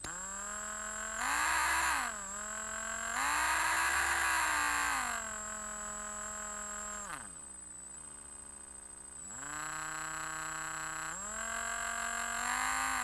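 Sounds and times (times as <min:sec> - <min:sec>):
drill motor whining: 0:00.0 - 0:13.0.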